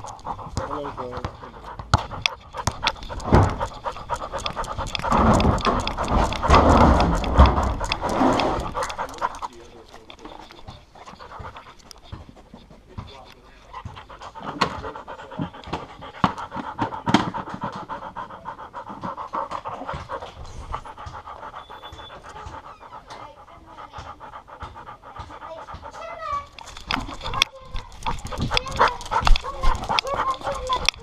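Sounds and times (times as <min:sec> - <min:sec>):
dog panting: 0:00.0 - 0:31.0.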